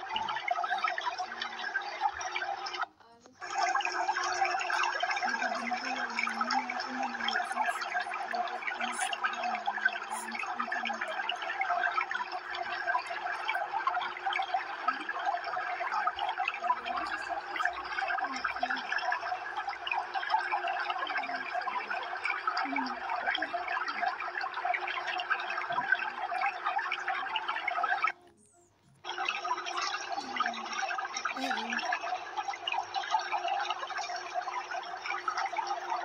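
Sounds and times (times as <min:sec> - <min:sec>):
aquarium water bubbling: 0:00.0 - 0:36.0.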